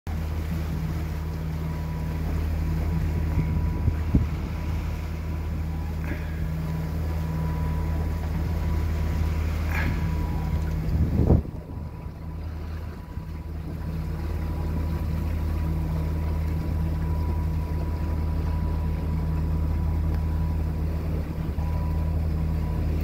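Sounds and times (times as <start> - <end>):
boat engine droning: 0.1 - 23.0
wind and water hiss: 0.1 - 23.0.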